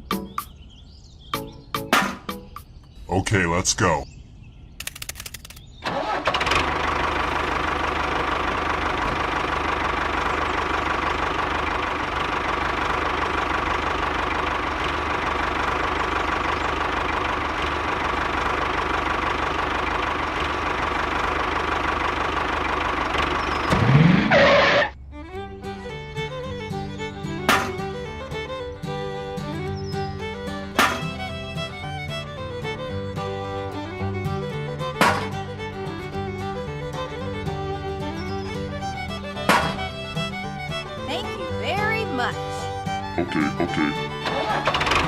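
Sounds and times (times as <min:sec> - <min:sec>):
model diesel engine running: 0:05.8 - 0:45.0.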